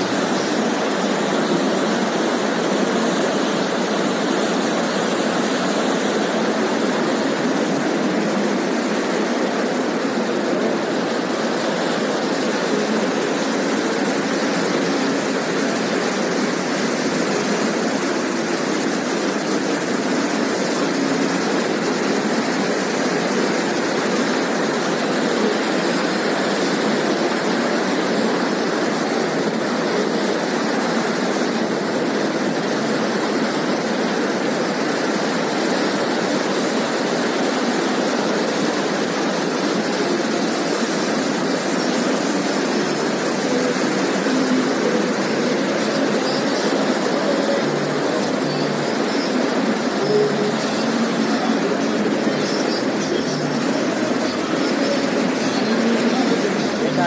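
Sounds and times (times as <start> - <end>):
river rushing over boulders: 0.0 - 57.0.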